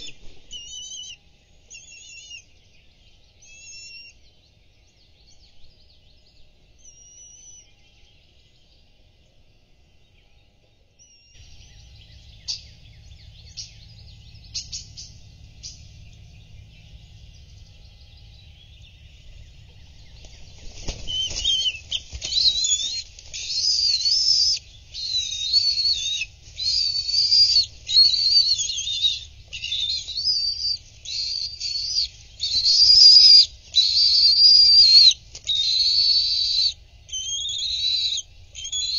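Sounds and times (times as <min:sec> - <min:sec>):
eaglet food-begging calls: 0:00.0 - 0:02.5, 0:03.4 - 0:04.2, 0:06.8 - 0:07.7, 0:11.0 - 0:38.9.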